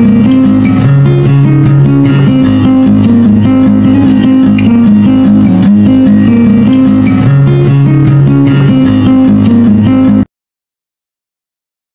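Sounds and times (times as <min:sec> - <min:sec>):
guitar plucked and strummed: 0:00.0 - 0:10.3.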